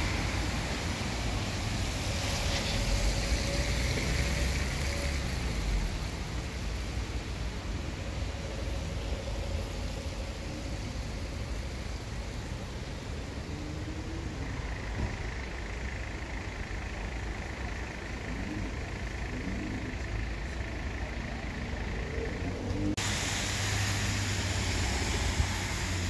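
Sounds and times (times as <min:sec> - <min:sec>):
outdoor background rumble and hiss: 0:00.0 - 0:26.0.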